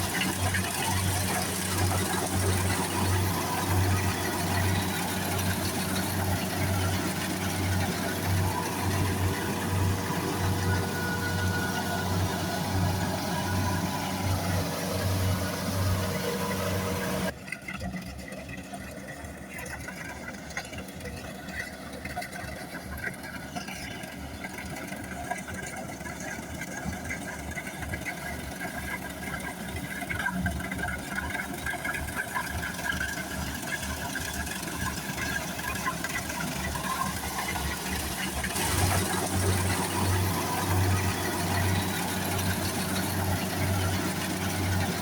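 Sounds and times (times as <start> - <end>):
combine harvester engine running: 0.0 - 17.4, 18.6 - 45.0.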